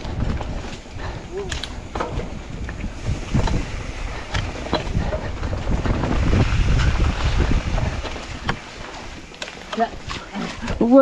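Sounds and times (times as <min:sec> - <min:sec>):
bike knocks and rattles: 0:00.0 - 0:11.0
wind buffeting microphone: 0:00.0 - 0:11.0.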